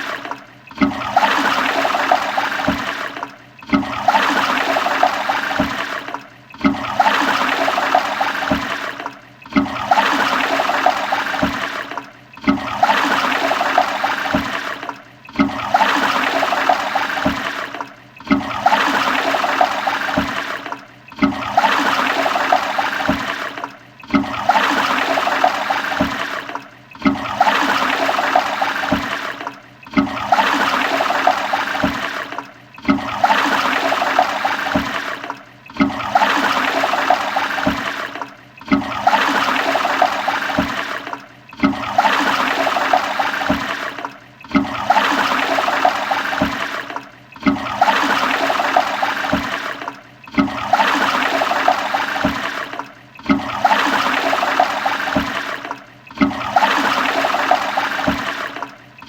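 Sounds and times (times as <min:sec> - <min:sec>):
toilet flushing: 0:00.0 - 0:59.0.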